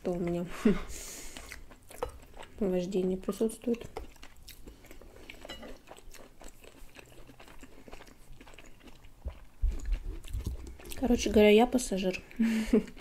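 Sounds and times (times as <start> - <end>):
people chewing with wet clicks: 0.0 - 13.0.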